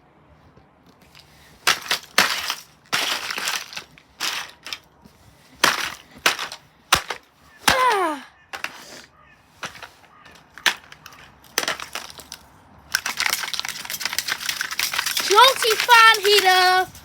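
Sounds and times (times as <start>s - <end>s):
plastic casing cracking: 1.1s - 4.8s, 5.6s - 8.9s, 9.6s - 17.0s.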